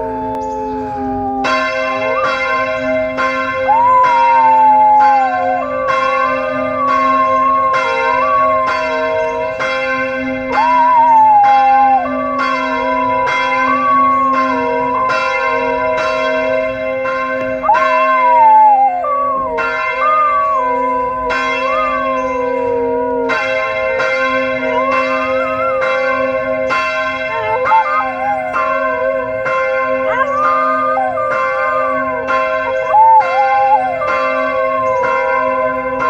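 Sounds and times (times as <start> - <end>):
church bells ringing: 0.0 - 36.0
dog howling: 0.0 - 36.0.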